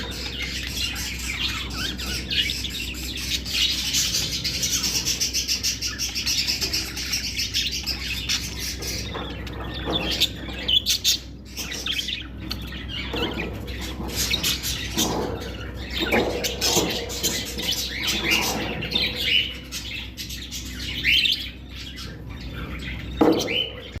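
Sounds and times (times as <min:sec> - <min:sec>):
budgerigars chirping and chattering: 0:00.0 - 0:24.0.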